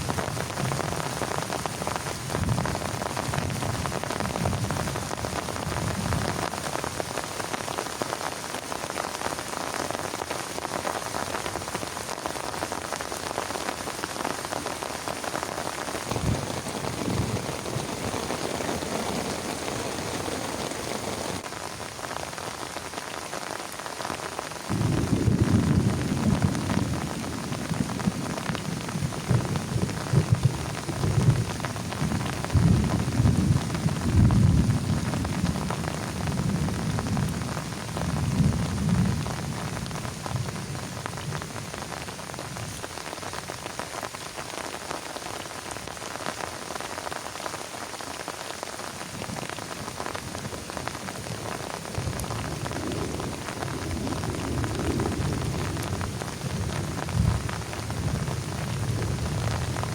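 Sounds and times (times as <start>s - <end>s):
heavy rain on plastic tarp: 0.0s - 59.9s.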